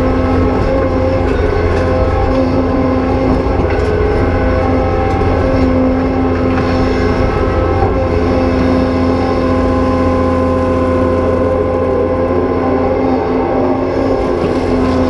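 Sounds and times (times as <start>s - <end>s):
diesel engine running hard: 0.0s - 15.0s
hydraulic pump whine: 0.0s - 15.0s.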